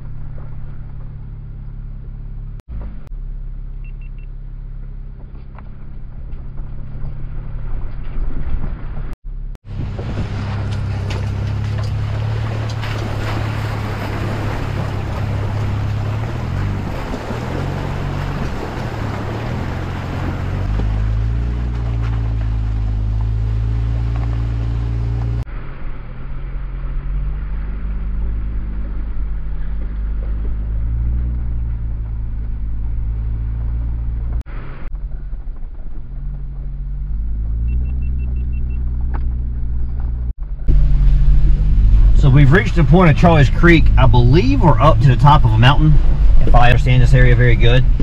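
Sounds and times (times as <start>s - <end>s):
car engine low rumble: 0.0s - 48.0s.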